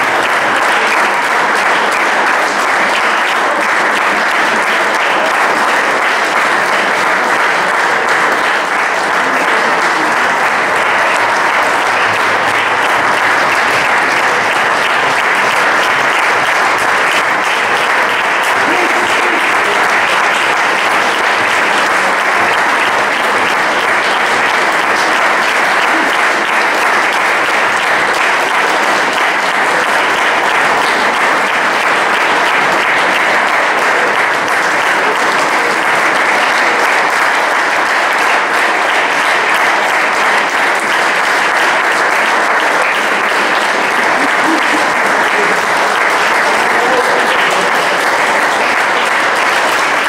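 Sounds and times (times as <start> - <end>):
audience applauding: 0.0 - 50.0.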